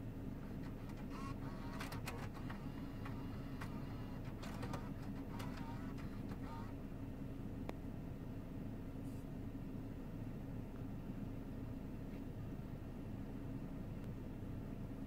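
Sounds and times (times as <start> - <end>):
low hum inside car: 0.0 - 15.0.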